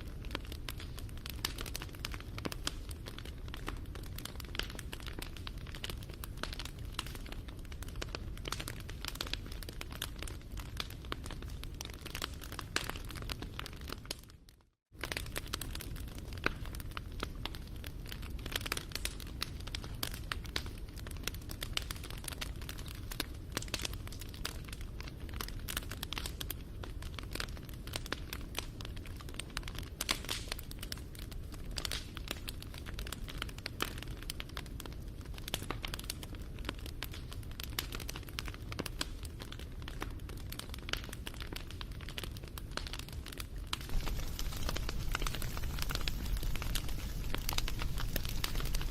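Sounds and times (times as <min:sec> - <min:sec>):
wood fire crackling: 0:00.0 - 0:14.3, 0:15.0 - 0:48.9.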